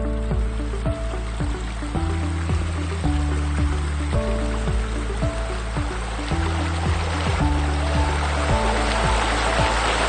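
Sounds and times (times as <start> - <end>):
kick drum: 0.0 - 9.9
bass line: 0.0 - 10.0.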